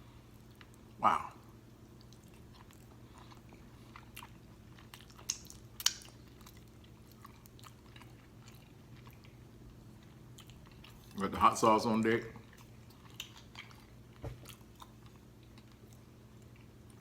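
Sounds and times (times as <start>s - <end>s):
faint low hum: 0.0s - 17.0s
chewing food: 1.9s - 17.0s.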